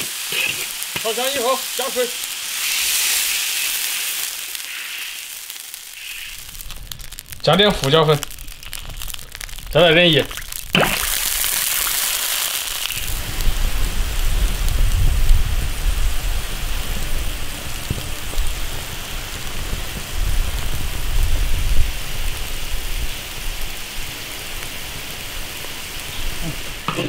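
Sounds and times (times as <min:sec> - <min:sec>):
broth boiling in a wok: 0:00.0 - 0:27.0.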